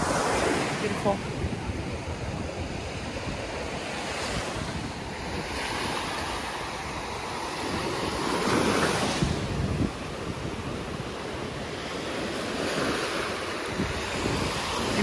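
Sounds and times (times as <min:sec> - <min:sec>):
waves washing onto beach: 0:00.0 - 0:15.0
wind buffeting microphone: 0:00.0 - 0:15.0.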